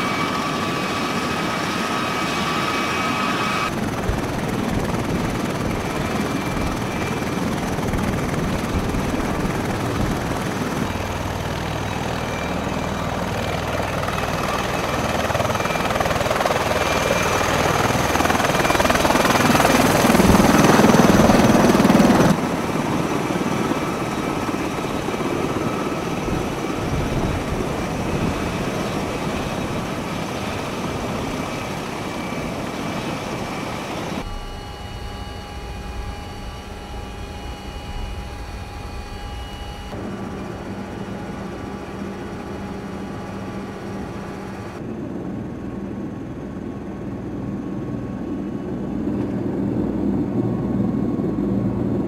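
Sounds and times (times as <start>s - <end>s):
rotor and turbine noise: 0.0s - 52.0s.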